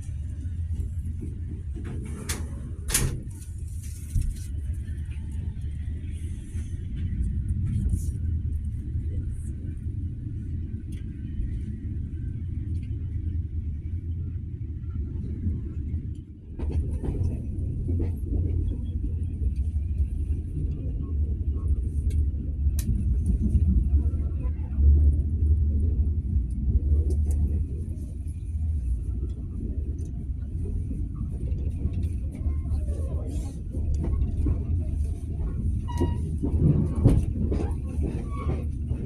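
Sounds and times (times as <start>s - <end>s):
passenger train rumbling: 0.0s - 39.0s.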